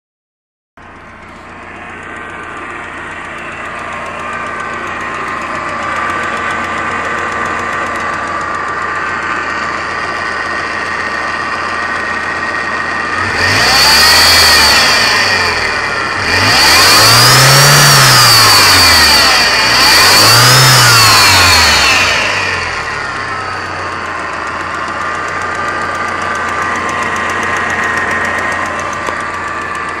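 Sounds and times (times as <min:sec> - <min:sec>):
car engine idling with whine: 0:00.8 - 0:30.0
car engine revving: 0:00.8 - 0:30.0.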